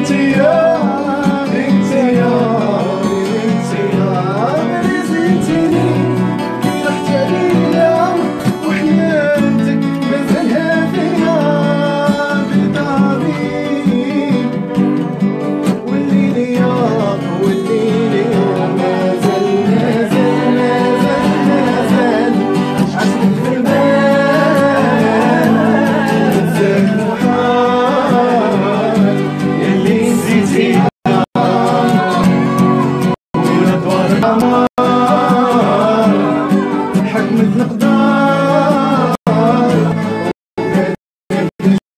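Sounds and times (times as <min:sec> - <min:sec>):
plucked string instrument: 0:00.0 - 0:41.8.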